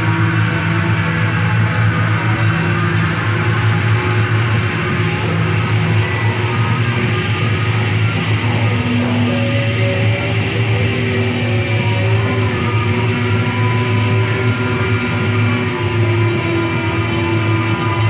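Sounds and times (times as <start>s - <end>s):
steady low drone: 0.0s - 18.0s.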